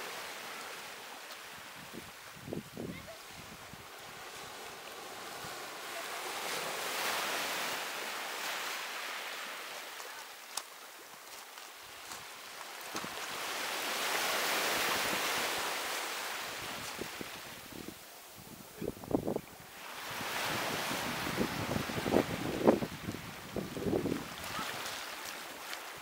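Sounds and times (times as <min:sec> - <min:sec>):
sea waves washing onto beach: 0:00.0 - 0:26.0.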